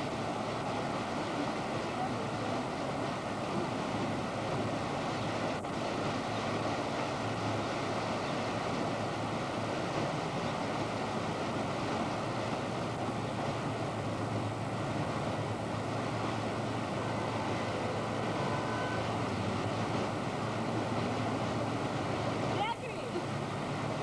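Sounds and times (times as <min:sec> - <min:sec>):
fountain water splashing: 0:00.0 - 0:24.0.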